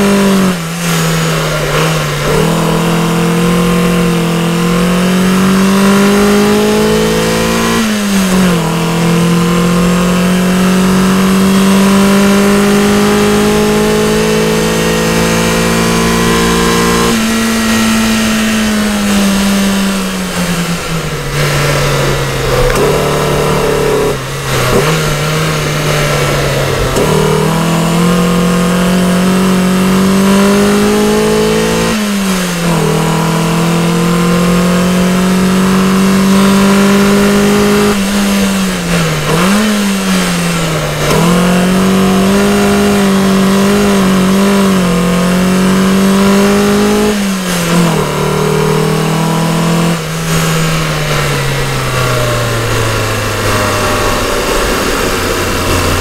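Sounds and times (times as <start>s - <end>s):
car engine accelerating and shifting: 0.0s - 56.0s.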